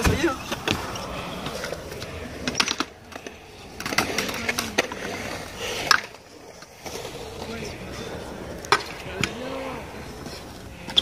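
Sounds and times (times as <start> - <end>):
scooter wheels clacking on concrete: 0.0 - 11.0.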